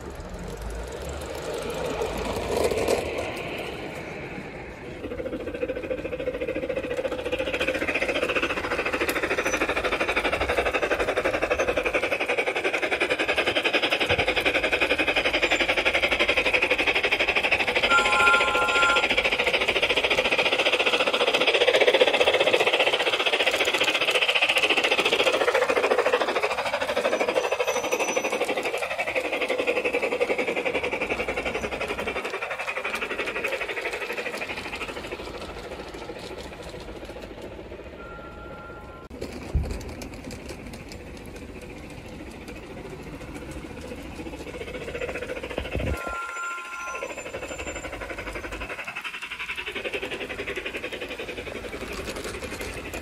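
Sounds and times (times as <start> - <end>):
model train wheels clattering: 0.0 - 53.0.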